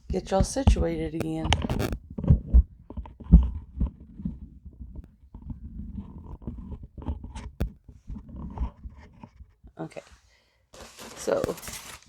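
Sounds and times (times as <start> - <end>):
microphone handling bumps: 0.0 - 9.8.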